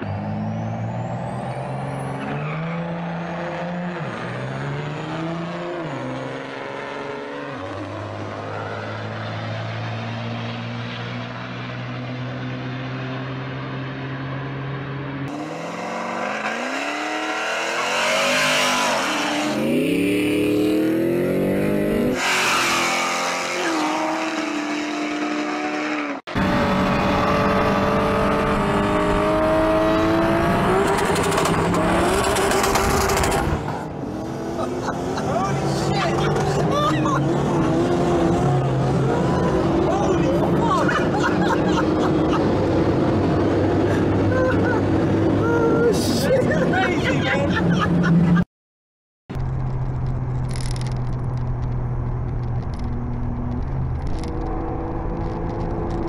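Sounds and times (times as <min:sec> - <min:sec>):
engines revving at full throttle: 0:00.0 - 0:48.4.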